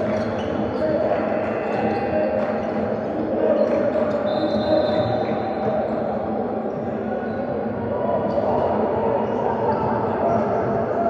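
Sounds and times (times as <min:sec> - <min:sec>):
crowd and player voices: 0:00.0 - 0:11.0.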